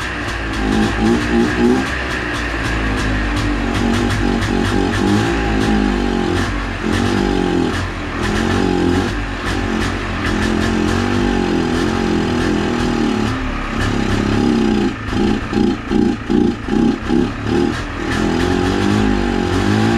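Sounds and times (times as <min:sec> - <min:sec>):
two-stroke engine revving: 0:00.0 - 0:19.9.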